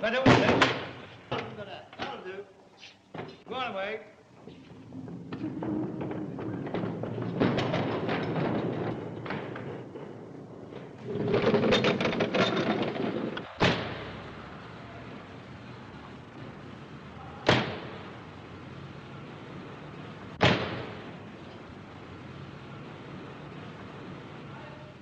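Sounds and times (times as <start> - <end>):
railway carriages rattling and clanking: 4.5 - 25.0.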